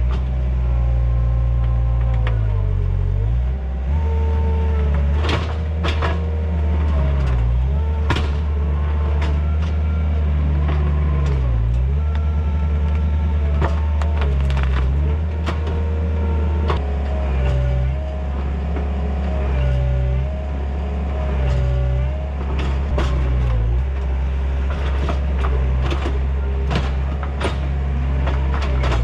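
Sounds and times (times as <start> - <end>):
diesel engine under load: 0.0 - 29.0.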